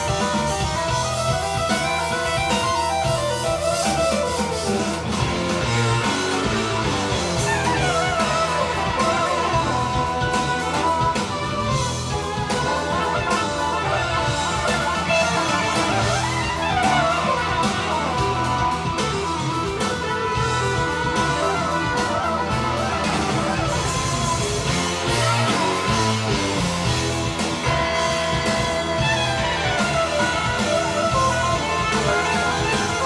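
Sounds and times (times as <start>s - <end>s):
guitar music with drums: 0.0s - 33.0s.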